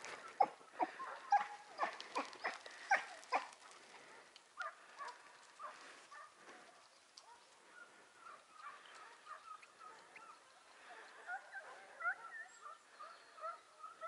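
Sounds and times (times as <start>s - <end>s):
hounds baying: 0.0s - 14.0s.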